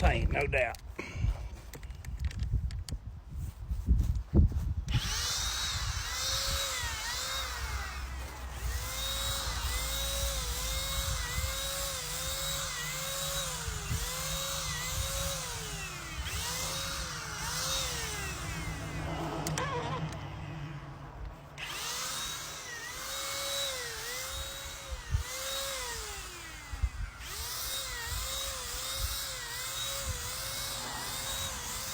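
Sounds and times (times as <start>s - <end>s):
electric paint sprayer running: 4.9s - 31.9s.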